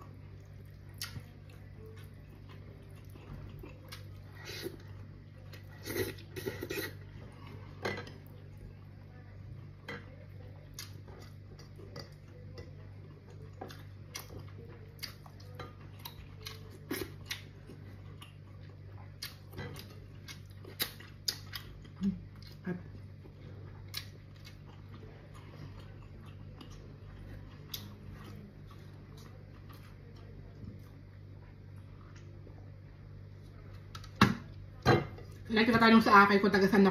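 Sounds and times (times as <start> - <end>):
steady low hum: 0.0 - 36.9
chewing: 0.1 - 8.8, 9.7 - 32.8.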